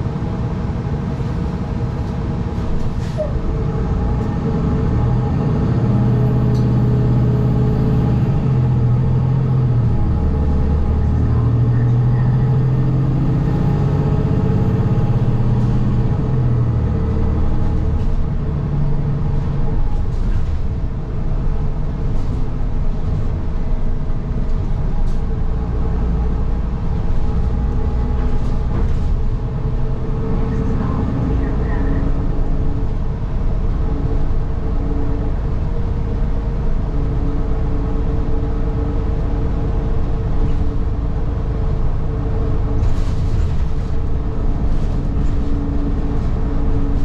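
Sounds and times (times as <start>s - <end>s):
bus engine and drivetrain: 0.0s - 47.0s.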